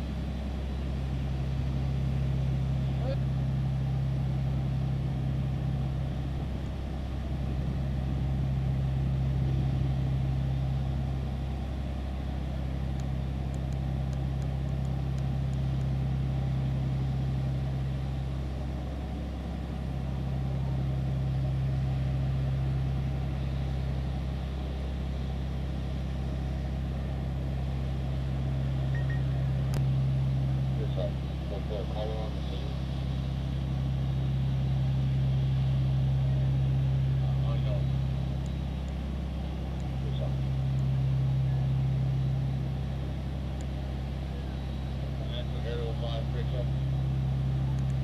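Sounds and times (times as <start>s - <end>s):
fire engine running: 0.0s - 48.0s.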